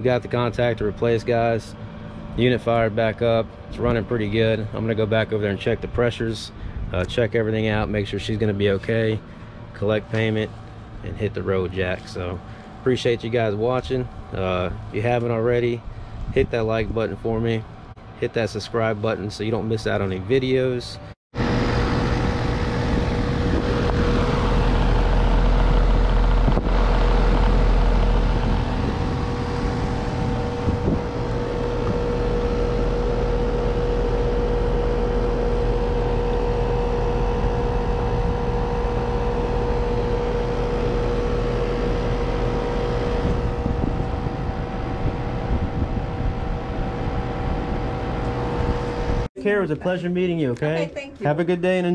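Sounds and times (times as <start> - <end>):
heat pump unit humming: 0.0 - 51.9.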